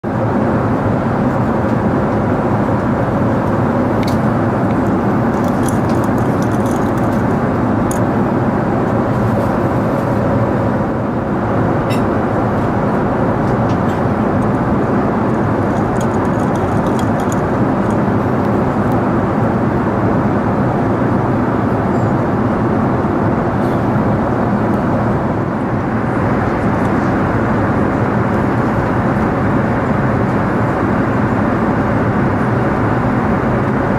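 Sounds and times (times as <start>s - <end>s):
airplane cabin engine roar: 0.0s - 33.9s.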